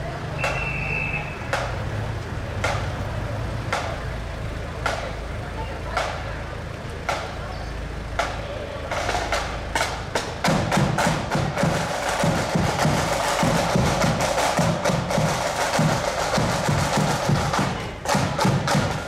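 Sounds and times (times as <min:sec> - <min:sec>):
side drums marching beat: 0:00.3 - 0:06.4, 0:07.0 - 0:07.5, 0:08.1 - 0:19.0.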